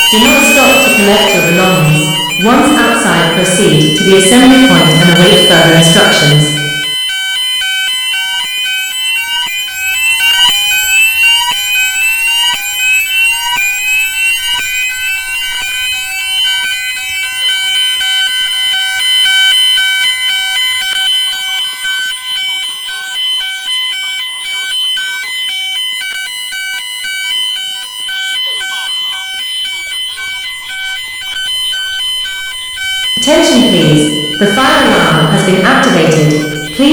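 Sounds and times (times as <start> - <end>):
fire alarm rising sweep tone: 0.0 - 36.9
rapidly pulsing alarm tone: 0.0 - 36.9
steady high alarm tone: 0.0 - 36.9.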